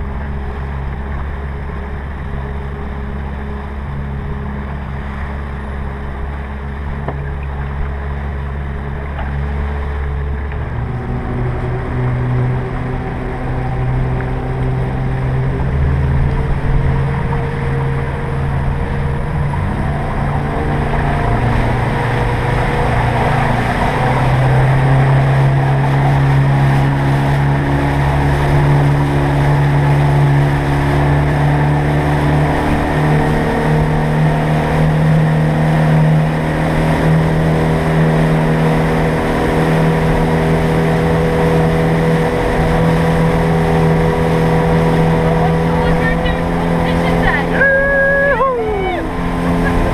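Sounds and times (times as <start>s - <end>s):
boat engine running: 0.0s - 49.9s
water wash: 0.0s - 49.9s.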